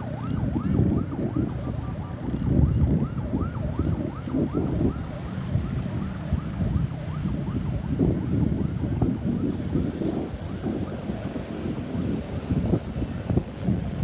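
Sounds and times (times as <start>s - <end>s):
ambulance siren yelping: 0.0s - 12.6s
wind rumble on microphone: 0.0s - 14.0s.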